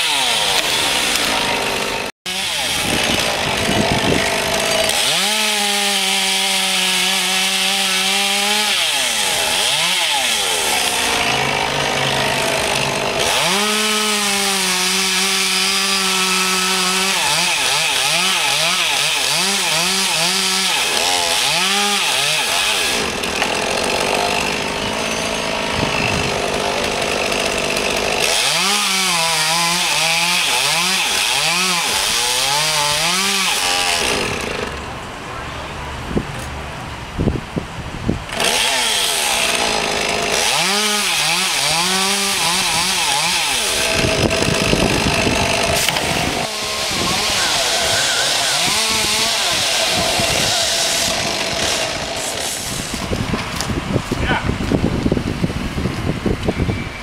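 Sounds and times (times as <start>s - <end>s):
chainsaw cutting wood: 0.0s - 34.9s, 38.3s - 54.4s.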